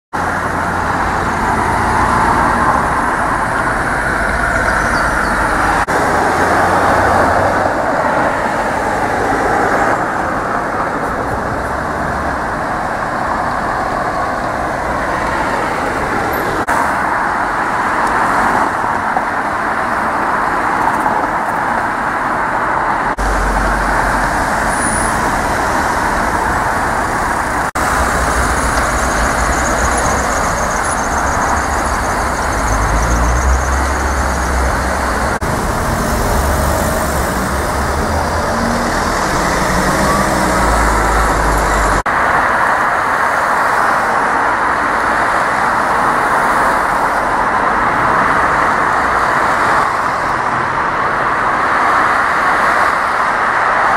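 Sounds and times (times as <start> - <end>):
road traffic passing: 0.1 - 53.9.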